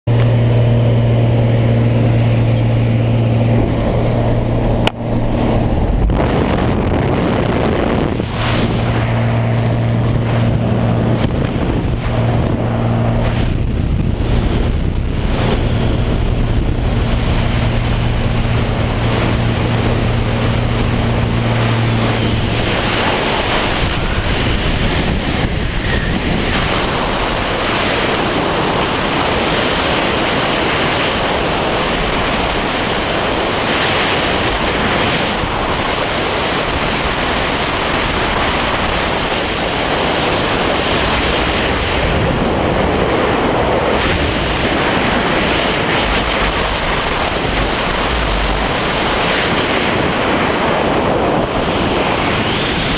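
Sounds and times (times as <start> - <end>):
plane engine and propeller droning: 0.0 - 52.9
wind noise on microphone: 0.1 - 52.9.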